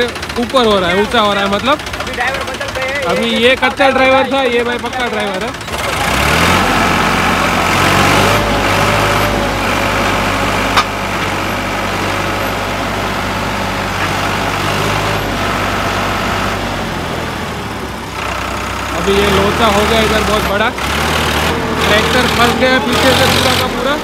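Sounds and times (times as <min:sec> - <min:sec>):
diesel tractor engine revving: 0:00.0 - 0:24.0.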